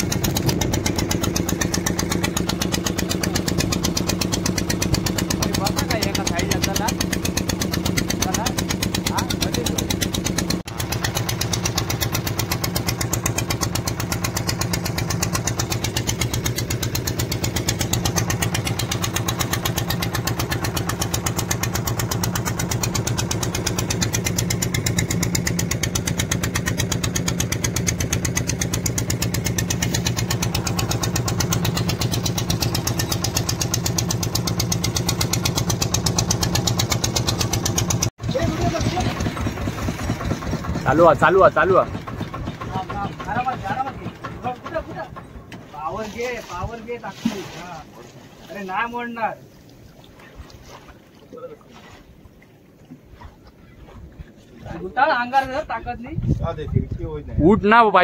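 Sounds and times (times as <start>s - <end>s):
boat engine running steadily: 0.0s - 58.0s.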